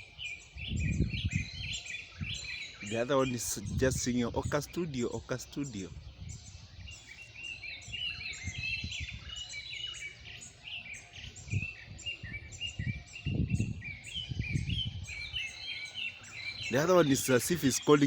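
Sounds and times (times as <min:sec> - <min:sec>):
birds chirping and whistling: 0:00.0 - 0:18.0.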